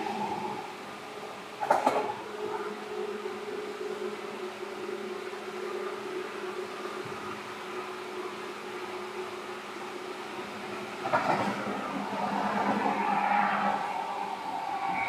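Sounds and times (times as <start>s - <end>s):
electric train running drone: 0.0s - 15.0s.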